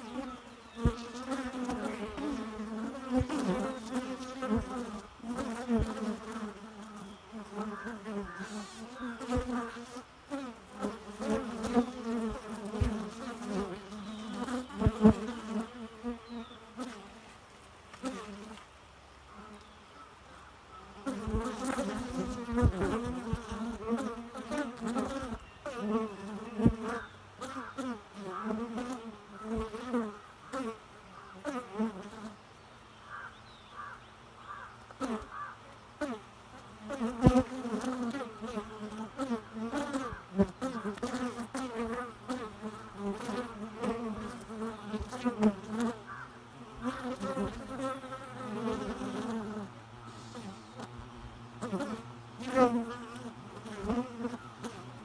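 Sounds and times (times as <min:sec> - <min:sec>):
honeybees buzzing: 0:00.0 - 0:18.7, 0:19.3 - 0:32.4, 0:33.1 - 0:55.0.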